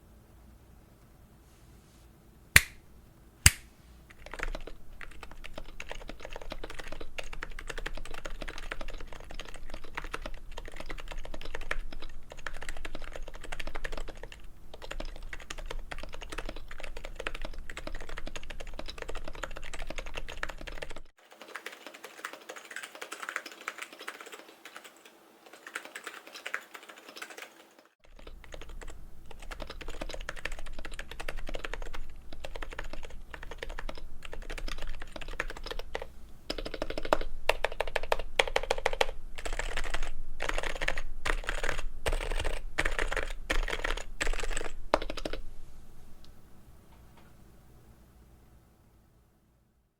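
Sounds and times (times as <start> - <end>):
keyboard typing: 3.5 - 45.4.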